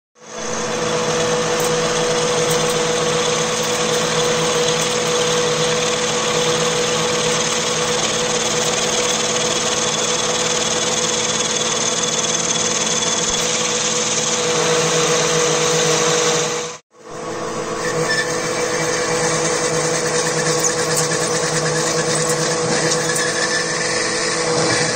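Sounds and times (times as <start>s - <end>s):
electric motor whining: 0.2s - 24.9s.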